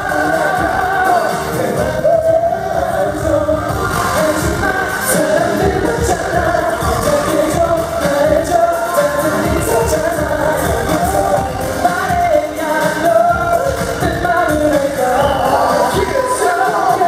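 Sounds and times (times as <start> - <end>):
loud pop backing track: 0.0 - 17.0
male singers on microphones: 0.0 - 17.0.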